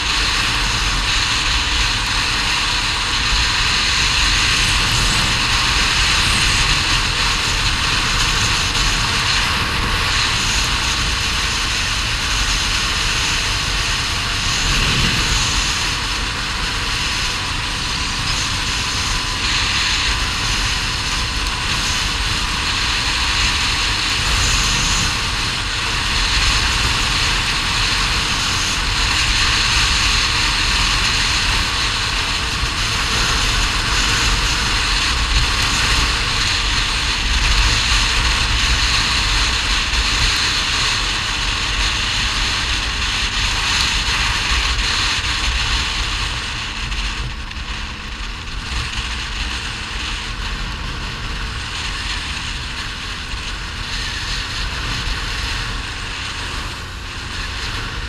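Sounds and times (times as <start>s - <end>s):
atv engine running: 0.0s - 58.0s
wind rush on microphone: 0.0s - 58.0s.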